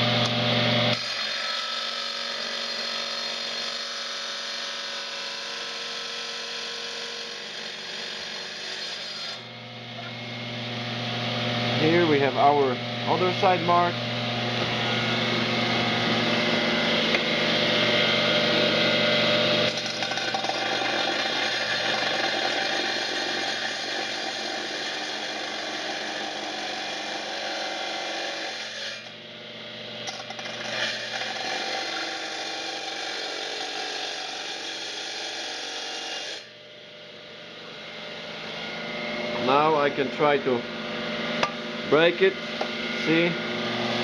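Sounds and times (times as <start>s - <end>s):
power cutter cutting tile: 0.0s - 11.1s, 13.1s - 29.2s, 29.8s - 36.5s, 41.4s - 44.0s.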